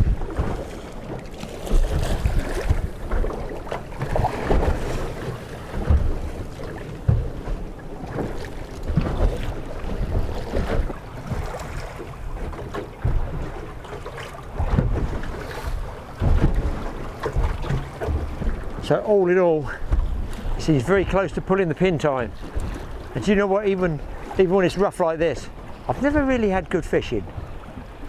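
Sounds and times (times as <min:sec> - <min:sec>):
water slapping against hull: 0:00.0 - 0:28.0
wind buffeting microphone: 0:00.0 - 0:28.0.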